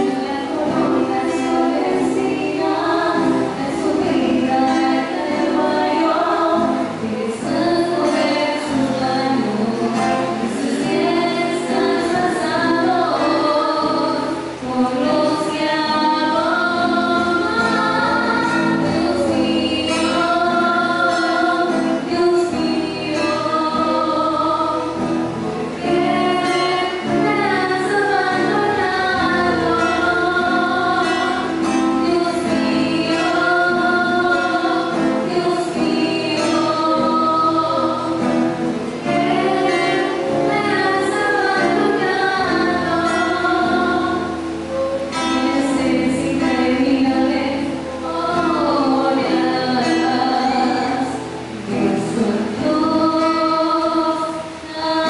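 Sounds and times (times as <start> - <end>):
acoustic guitar: 0.0 - 55.0
women singing: 0.0 - 55.0.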